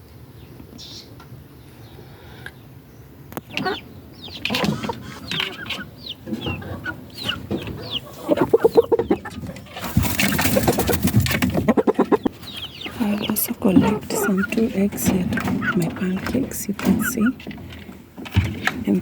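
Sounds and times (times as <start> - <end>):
chickens clucking: 0.8 - 19.0.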